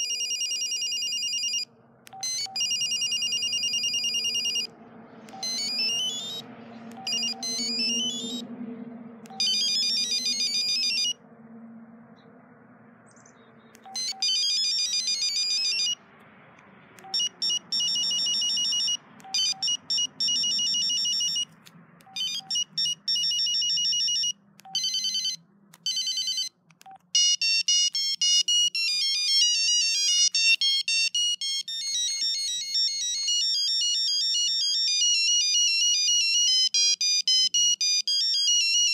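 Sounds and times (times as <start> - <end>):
phone ringtone melodies: 0.0 - 8.5, 9.2 - 11.2, 13.8 - 16.0, 17.0 - 38.9.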